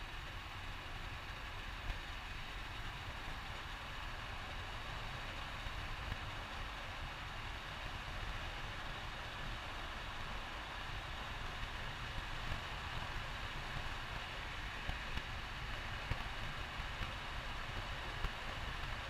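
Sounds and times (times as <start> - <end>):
car engine low rumble: 0.0 - 19.0
road and wind hiss: 0.0 - 19.0.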